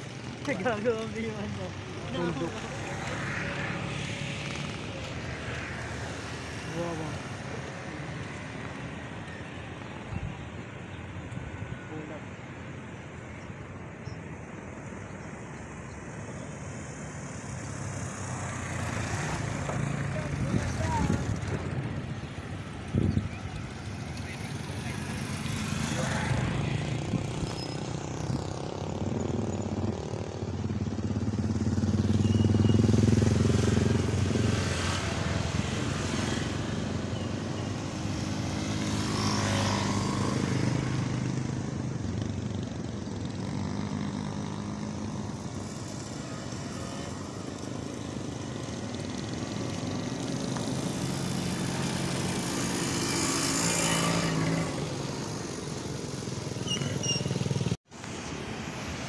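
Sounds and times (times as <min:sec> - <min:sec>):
motor vehicles passing: 0:00.0 - 0:59.0.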